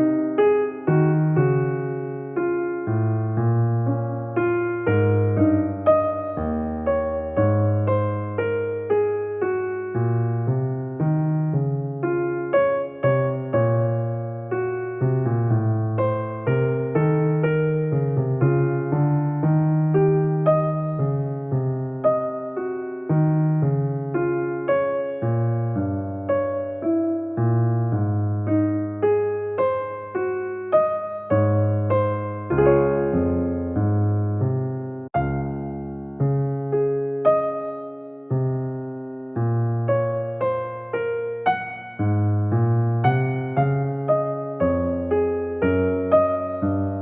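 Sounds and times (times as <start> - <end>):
soft electric piano music: 0.0 - 47.0.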